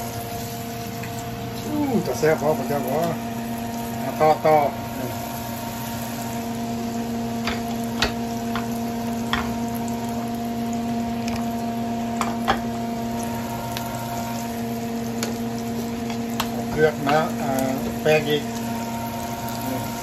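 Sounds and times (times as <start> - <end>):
chicken sizzling in hot oil: 0.0 - 20.0
steady hum: 0.0 - 20.0.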